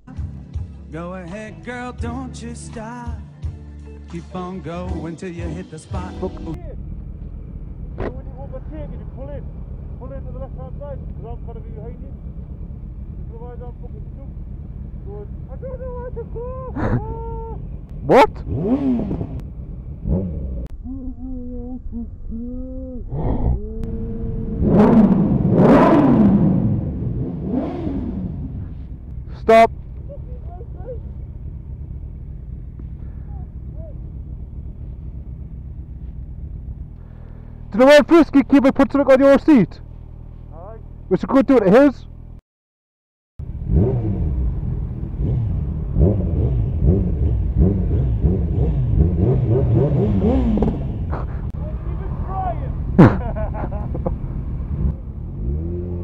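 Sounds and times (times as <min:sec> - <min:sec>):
motorcycle engine revving: 0:06.0 - 0:21.0, 0:23.1 - 0:41.2, 0:43.4 - 0:56.0.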